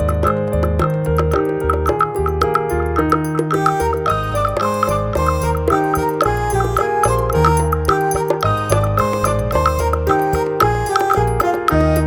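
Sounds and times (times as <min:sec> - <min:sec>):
upbeat keyboard music: 0:00.0 - 0:12.0.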